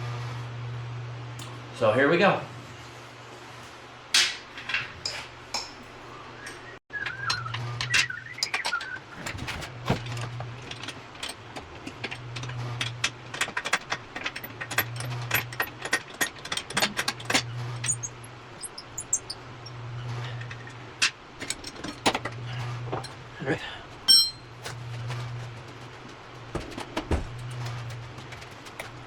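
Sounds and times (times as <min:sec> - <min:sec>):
metal tools clinking on metal: 0:04.2 - 0:06.1, 0:07.2 - 0:29.0.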